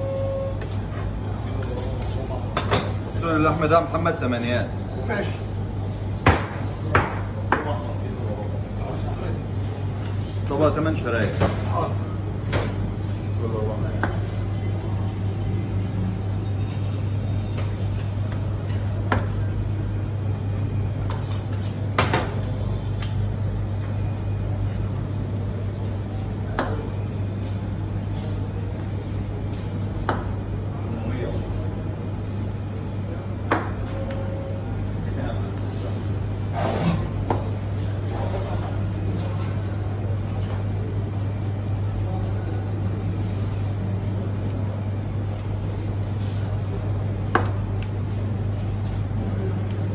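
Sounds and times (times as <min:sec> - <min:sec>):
steady low hum: 0:04.7 - 0:49.9.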